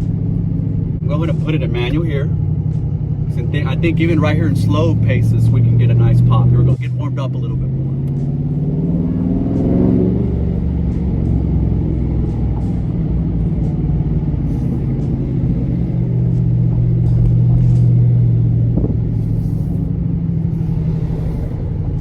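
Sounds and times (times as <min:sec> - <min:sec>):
car exhaust droning: 0:00.0 - 0:22.0.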